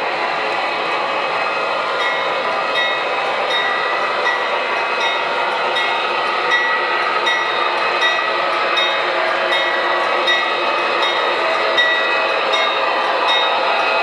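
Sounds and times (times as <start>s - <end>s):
model train diesel engine sound: 0.0s - 14.0s.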